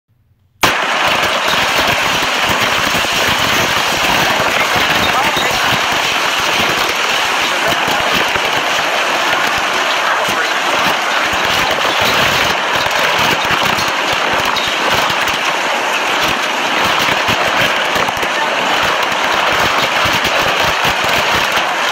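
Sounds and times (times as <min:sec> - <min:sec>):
driving rain: 0:00.6 - 0:21.9
tornado wind: 0:00.6 - 0:21.9.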